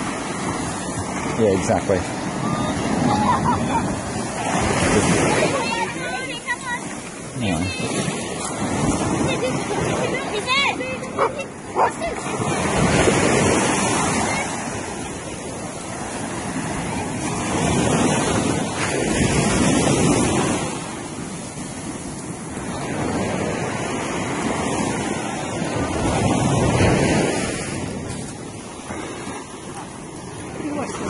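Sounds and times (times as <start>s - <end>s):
ocean surf breaking: 0.0s - 31.0s
wind on microphone: 0.0s - 31.0s.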